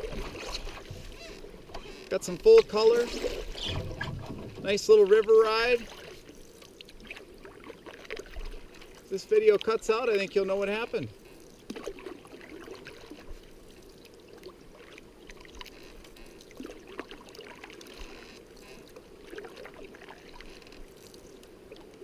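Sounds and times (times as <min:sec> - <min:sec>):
river water gurgling: 0:00.0 - 0:22.0
small splashes and knocks: 0:00.0 - 0:22.0.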